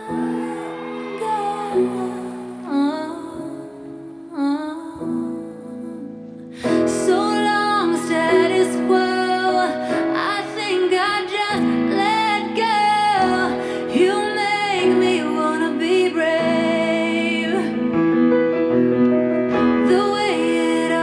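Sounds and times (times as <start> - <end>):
piano: 0.0 - 21.0.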